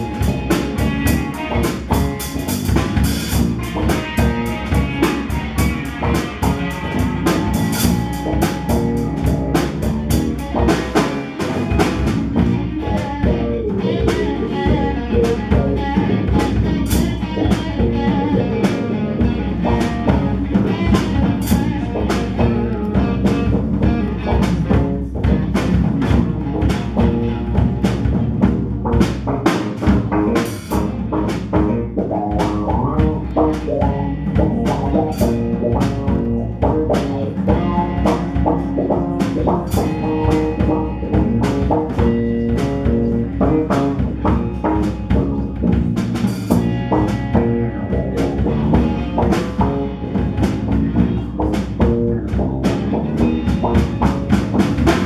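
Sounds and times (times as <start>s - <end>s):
drum hits on steady beat: 0.0s - 55.0s
rock band playing: 0.0s - 55.0s.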